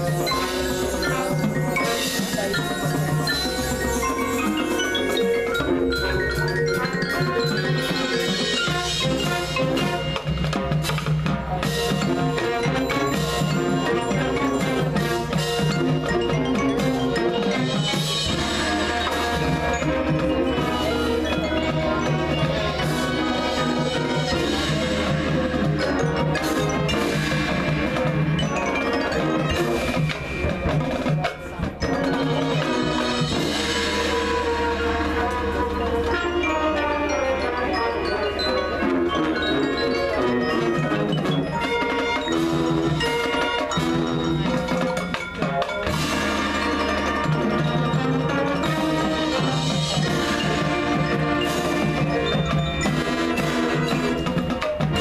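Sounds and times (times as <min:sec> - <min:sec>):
drums: 0:00.0 - 0:55.0
marching band brass: 0:00.0 - 0:55.0
marimbas and mallet percussion: 0:00.0 - 0:55.0.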